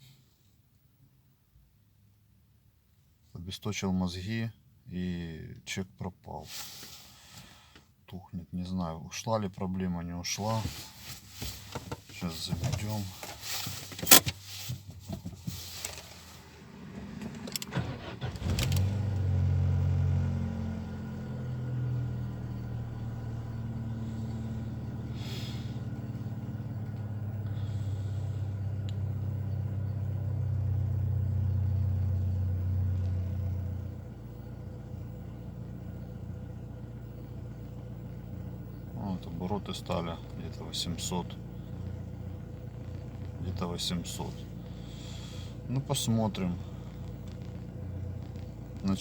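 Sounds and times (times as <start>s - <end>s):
car engine cranking and idling: 9.3s - 49.0s.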